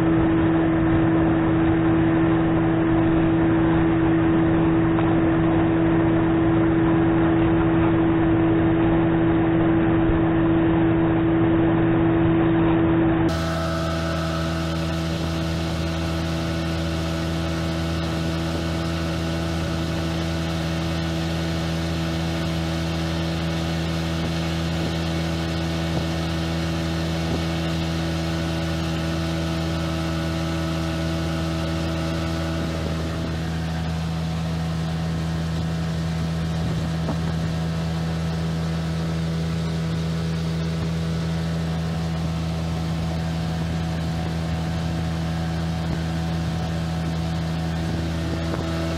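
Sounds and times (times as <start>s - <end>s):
outboard motor running: 0.0s - 48.9s
water rushing past hull: 0.0s - 48.9s
wind: 0.0s - 48.9s.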